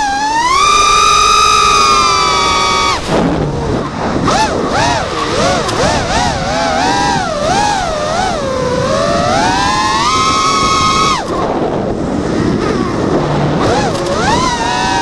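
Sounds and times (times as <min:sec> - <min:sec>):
drone motors whining: 0:00.0 - 0:15.0
wind rushing: 0:00.9 - 0:15.0.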